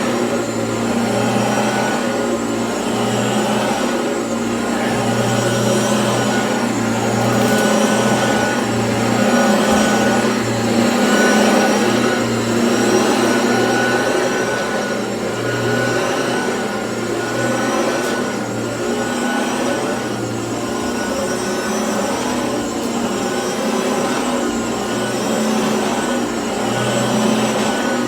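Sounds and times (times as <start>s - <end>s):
vacuum cleaner on carpet: 0.0s - 28.0s.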